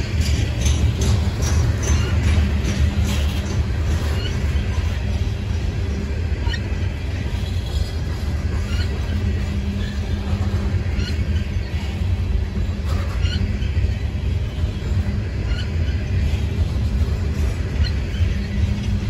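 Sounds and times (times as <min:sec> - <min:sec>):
steel wheels rumbling on rail: 0:00.0 - 0:19.0
wheels squealing: 0:00.0 - 0:19.0.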